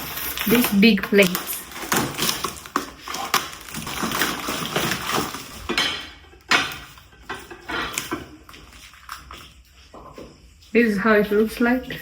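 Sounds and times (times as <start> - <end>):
dinner plates clinking and knocking: 0.0 - 10.4.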